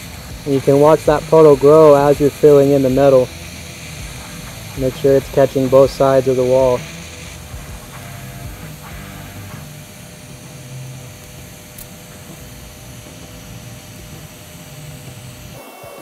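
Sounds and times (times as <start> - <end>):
low hum: 0.0 - 15.7
welding arc hiss: 0.0 - 16.0.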